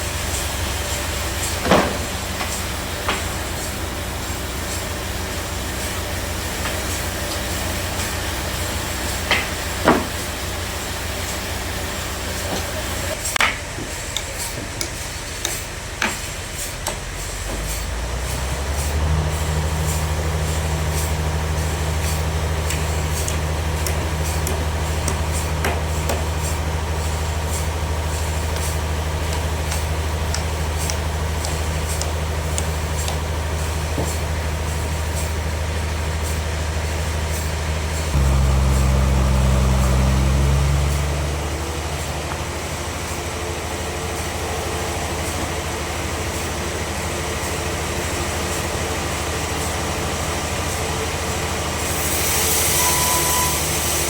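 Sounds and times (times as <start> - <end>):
heavy engine running: 0.0 - 54.0.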